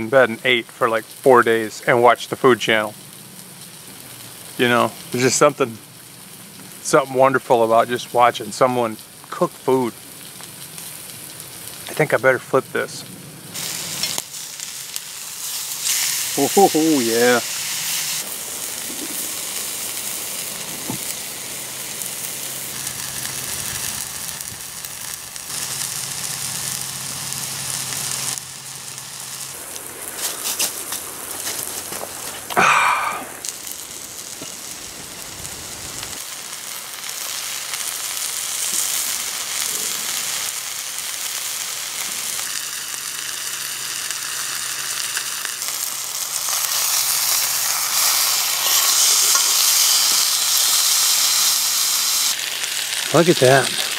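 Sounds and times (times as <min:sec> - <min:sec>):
sharp crackles: 0:00.3 - 0:53.9
steak sizzling in a skillet: 0:00.4 - 0:53.9.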